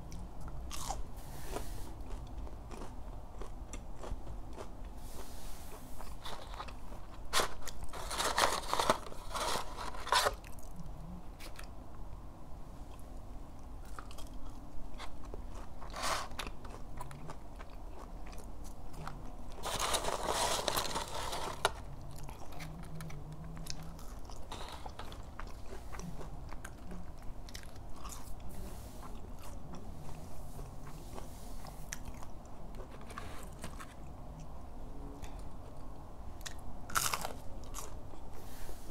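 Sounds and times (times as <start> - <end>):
chewing and crunching food: 0.0 - 12.0, 12.8 - 38.9.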